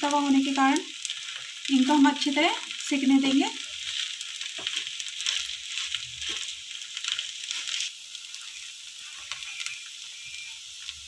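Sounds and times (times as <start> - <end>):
bread sizzling in a pan: 0.0 - 11.0.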